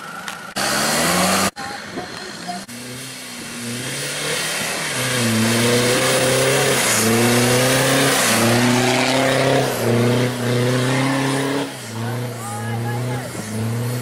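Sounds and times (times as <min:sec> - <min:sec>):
engine revving hard: 0:00.6 - 0:01.7, 0:02.6 - 0:14.0.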